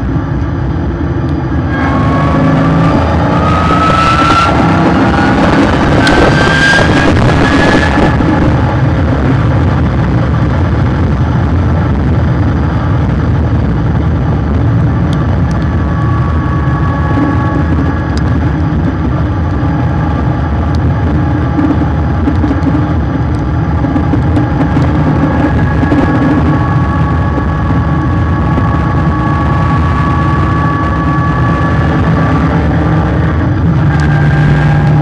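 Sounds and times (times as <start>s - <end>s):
car driving rumble: 0.0s - 35.0s.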